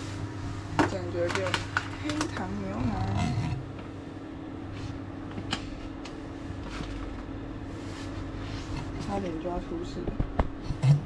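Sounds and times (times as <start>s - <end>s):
induction hob humming: 0.0s - 11.0s.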